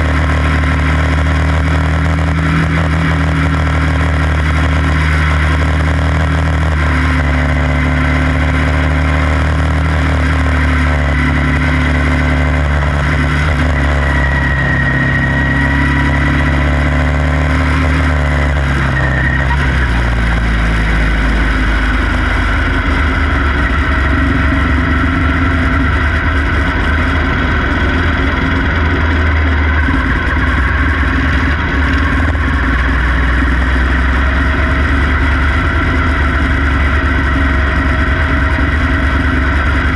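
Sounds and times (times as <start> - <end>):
other car engines: 0.0 - 39.9
race car engine running: 0.0 - 39.9.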